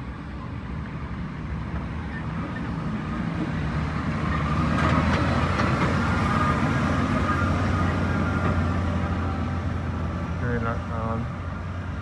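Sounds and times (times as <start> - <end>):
truck diesel engine droning: 2.0 - 12.0.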